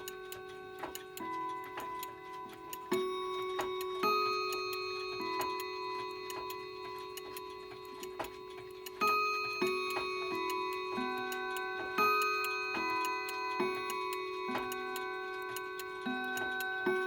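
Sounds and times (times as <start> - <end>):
clock chiming: 0.0 - 17.0
clock ticking: 0.0 - 17.0.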